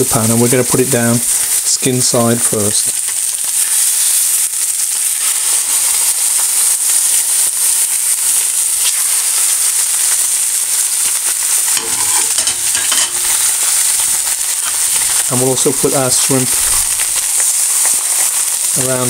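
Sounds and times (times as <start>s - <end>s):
fish sizzling in oil: 0.0s - 19.0s.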